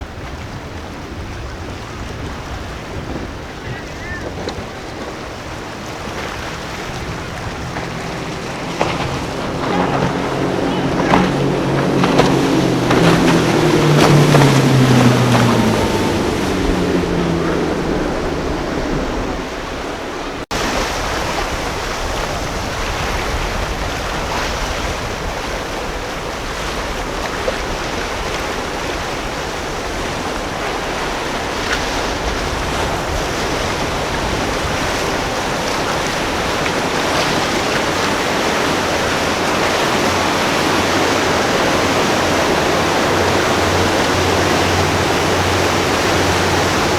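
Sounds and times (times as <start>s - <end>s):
boat engines passing: 0.0s - 46.9s
surf: 0.0s - 46.9s
wind: 0.0s - 46.9s.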